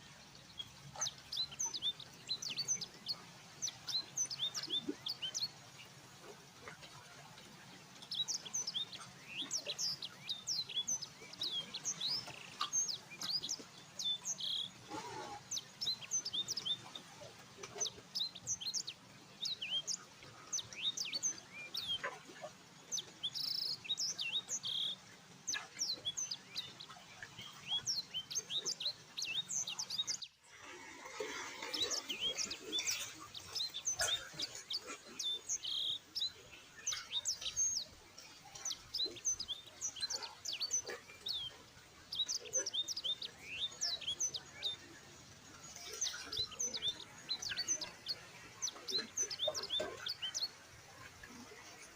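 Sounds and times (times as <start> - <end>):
flock of small birds chirping: 0.0 - 51.9.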